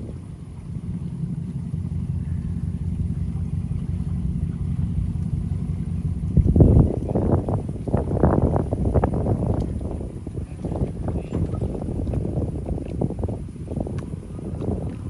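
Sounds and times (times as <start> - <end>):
boat motor droning: 0.0 - 15.0
rush of rough noise: 0.0 - 15.0.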